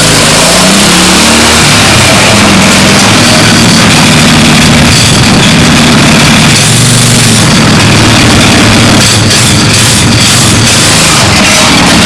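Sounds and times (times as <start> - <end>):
tractor engine revving: 0.0 - 12.0.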